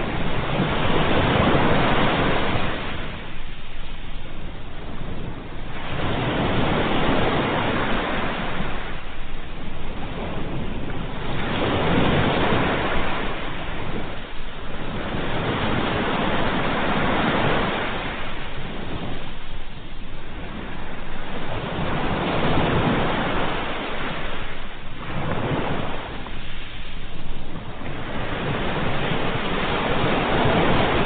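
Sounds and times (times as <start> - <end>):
ocean waves breaking: 0.0 - 31.0.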